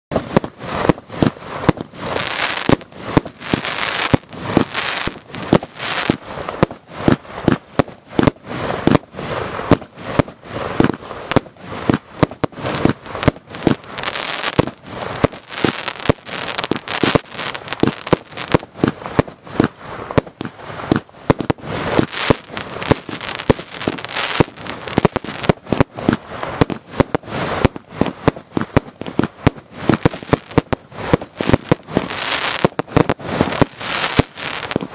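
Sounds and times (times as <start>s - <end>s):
fireworks bangs: 0.1s - 34.9s
fireworks crackling and fizzing: 0.1s - 34.9s.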